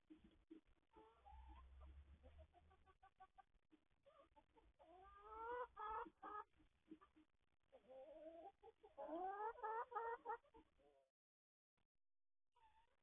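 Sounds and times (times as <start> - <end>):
hens clucking: 0.1 - 11.0.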